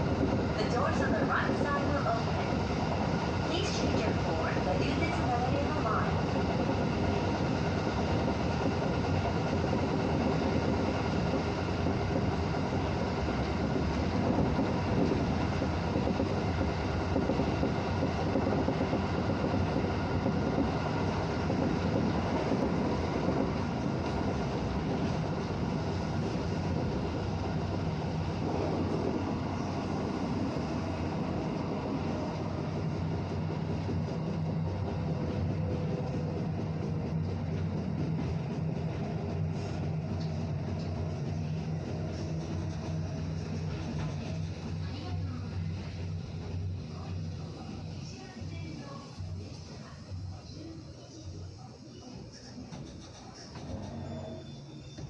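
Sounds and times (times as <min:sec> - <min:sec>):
train rolling rumble: 0:00.0 - 0:55.0.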